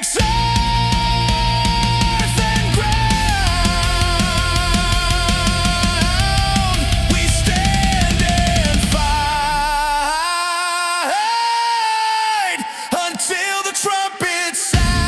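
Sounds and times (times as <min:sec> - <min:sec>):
loud rock song: 0:00.0 - 0:15.0.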